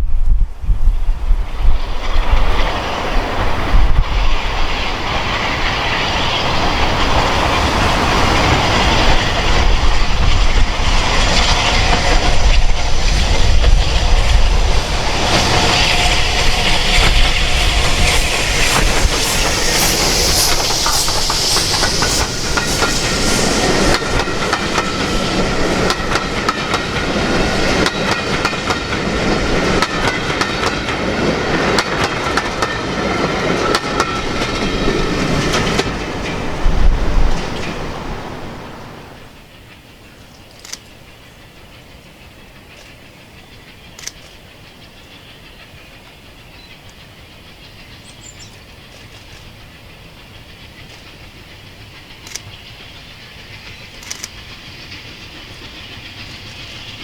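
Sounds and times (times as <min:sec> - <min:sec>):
train rolling rumble: 0:00.0 - 0:57.0
train wheels clicking over rail joints: 0:00.2 - 0:57.0
thin steady squeal: 0:01.4 - 0:30.3, 0:32.8 - 0:57.0.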